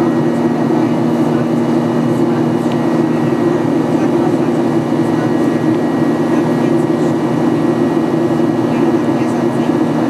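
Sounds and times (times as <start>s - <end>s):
constant low hum: 0.0s - 10.0s
jet engines droning: 0.0s - 10.0s.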